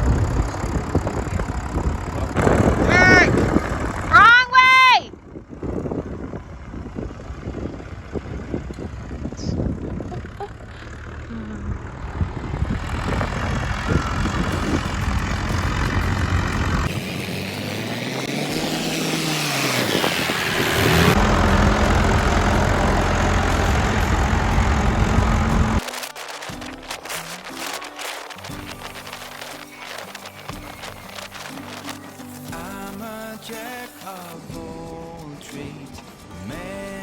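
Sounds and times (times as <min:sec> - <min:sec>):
backhoe diesel engine: 0:00.0 - 0:37.0.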